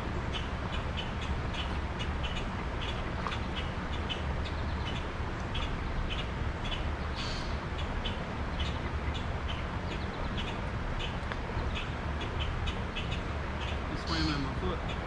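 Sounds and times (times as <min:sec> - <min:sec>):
steady low rumble: 0:00.0 - 0:15.0
bird chirping: 0:00.3 - 0:15.0.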